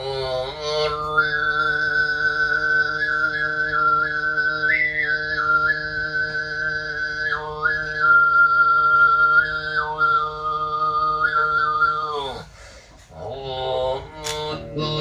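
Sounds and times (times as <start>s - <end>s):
throat singing with whistling overtones: 0.0s - 15.0s.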